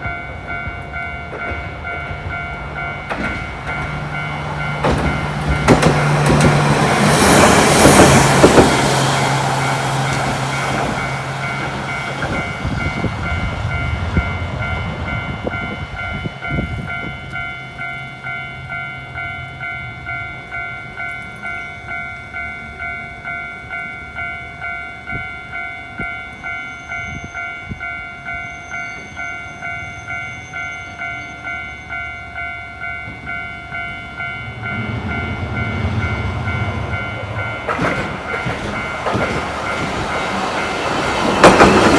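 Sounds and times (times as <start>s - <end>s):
level-crossing warning bell: 0.0s - 41.9s
tram passing loudly: 0.0s - 41.9s.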